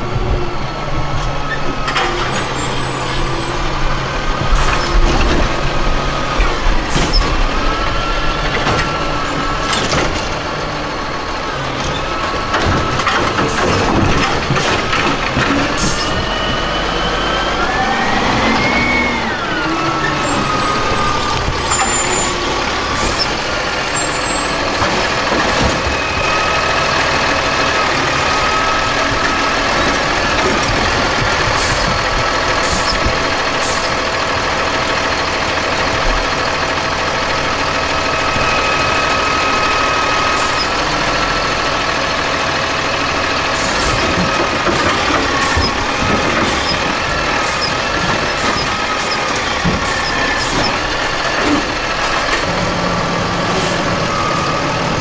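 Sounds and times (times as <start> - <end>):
garbage truck engine: 0.0 - 55.0.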